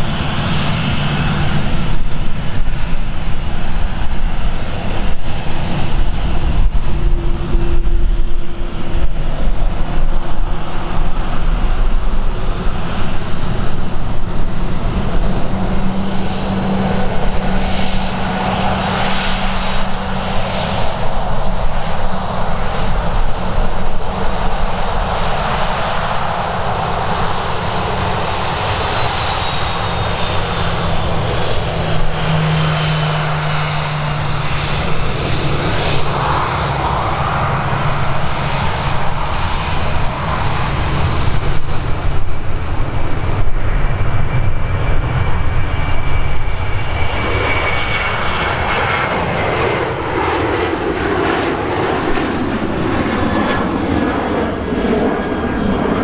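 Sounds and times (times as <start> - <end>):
jet airliner climbing away: 0.0 - 56.0
jet engines at taxi power: 0.0 - 56.0.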